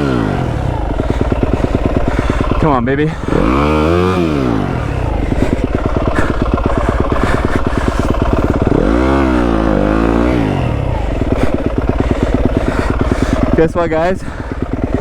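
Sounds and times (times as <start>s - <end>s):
motorbike engine chugging: 0.0s - 15.0s.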